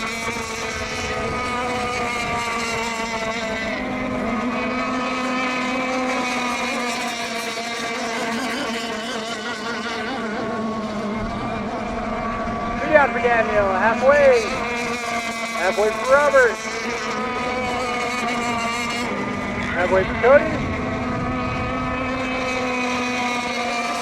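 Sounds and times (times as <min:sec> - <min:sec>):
racing boat engines whining: 0:00.0 - 0:24.0.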